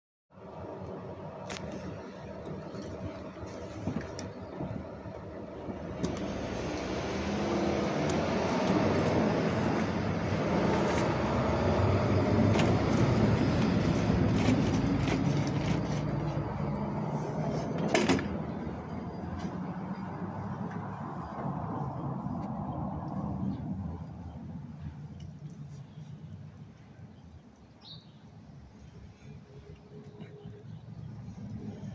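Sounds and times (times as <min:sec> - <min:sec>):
heavy vehicle engine rumble: 0:00.4 - 0:27.3.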